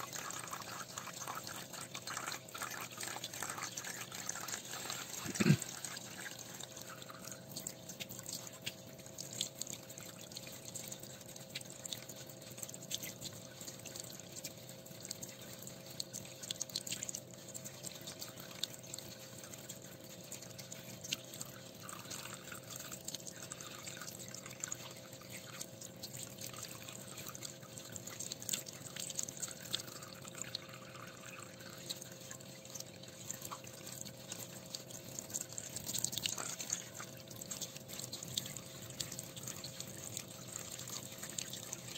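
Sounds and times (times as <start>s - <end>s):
faint steady hum: 0.0s - 41.9s
water dripping and splashing into sink: 0.0s - 41.9s.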